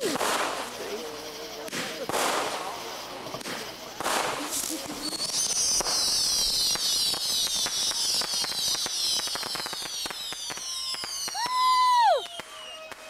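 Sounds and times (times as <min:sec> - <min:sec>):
whistling fireworks: 0:00.0 - 0:13.0.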